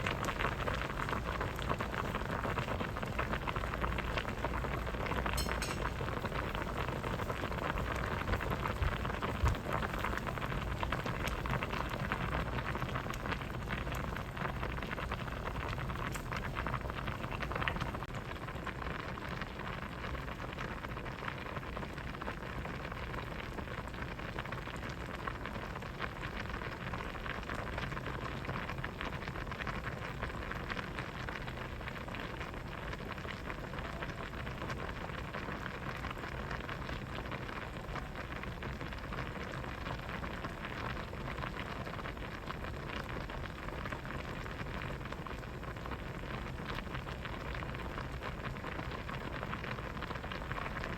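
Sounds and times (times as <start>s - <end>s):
soup boiling and bubbling: 0.0s - 50.9s.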